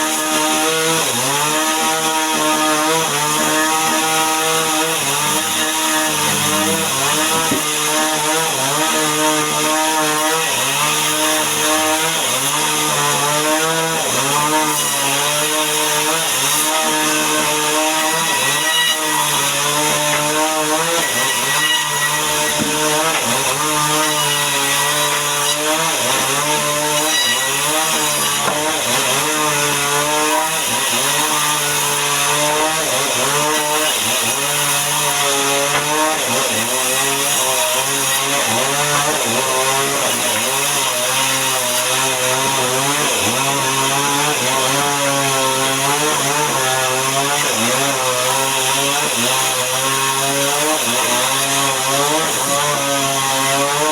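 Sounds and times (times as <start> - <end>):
chainsaw cutting timber: 0.0 - 53.9.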